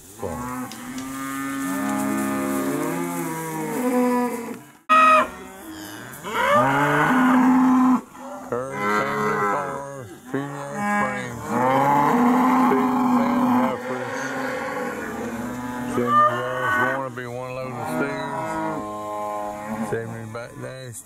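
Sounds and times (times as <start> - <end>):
cattle mooing: 0.2 - 20.8.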